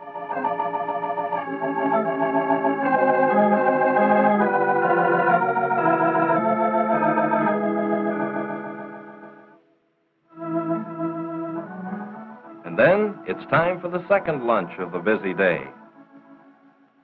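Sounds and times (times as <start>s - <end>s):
organ-like chords with tremolo: 0.0s - 9.6s, 10.3s - 17.0s.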